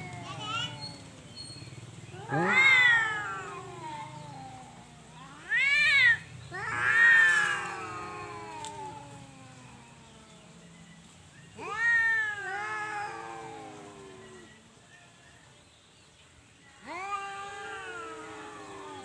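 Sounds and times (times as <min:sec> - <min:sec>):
cats yowling: 0:00.0 - 0:10.6, 0:11.5 - 0:14.7, 0:16.8 - 0:19.0.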